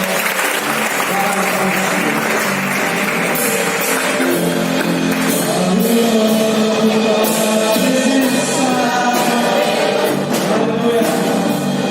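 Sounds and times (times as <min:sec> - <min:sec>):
band playing worship song: 0:00.0 - 0:11.9.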